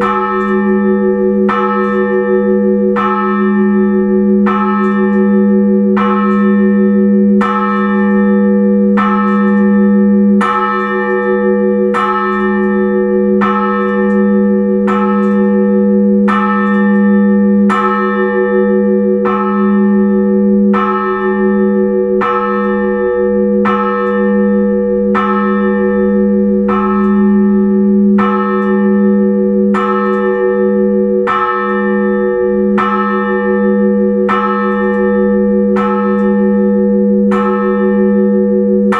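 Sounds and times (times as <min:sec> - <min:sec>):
large bell humming: 0:00.0 - 0:38.9.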